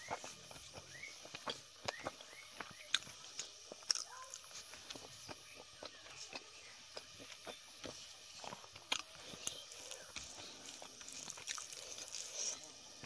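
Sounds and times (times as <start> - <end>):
fingers mixing mashed food: 0.0 - 12.8
chewing: 0.0 - 13.0.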